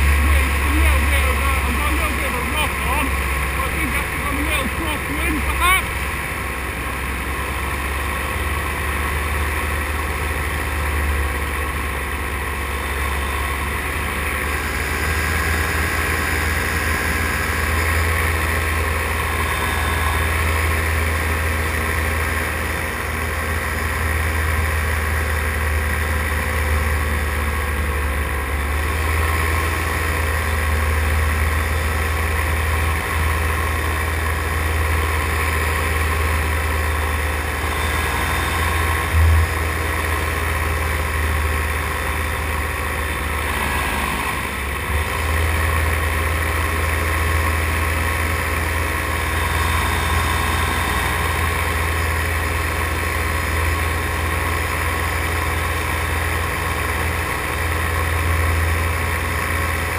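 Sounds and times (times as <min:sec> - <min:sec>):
paramotor engine drone: 0:00.0 - 0:59.9.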